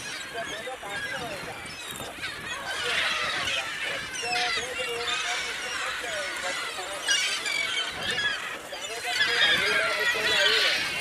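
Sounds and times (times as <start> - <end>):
flock of birds squawking and chirping: 0.0 - 11.0.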